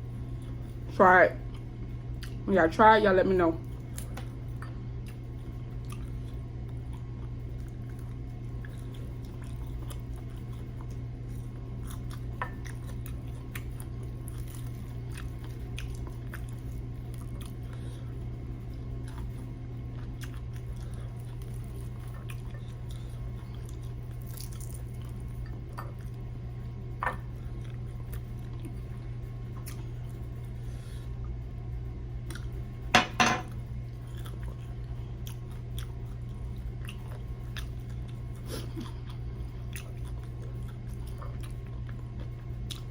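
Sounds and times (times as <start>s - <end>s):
steady low hum: 0.0s - 42.9s
person chewing crispy chicken: 3.6s - 31.3s, 32.2s - 32.7s, 33.8s - 42.9s.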